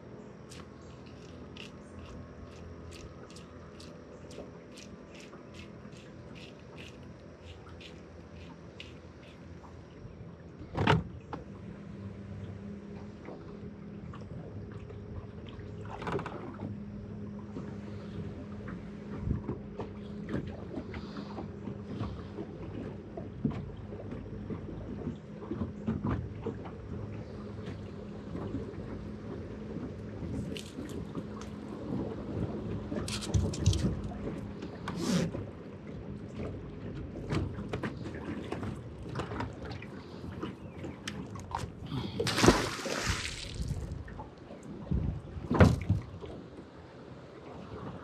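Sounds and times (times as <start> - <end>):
boat hum: 0.0 - 48.0.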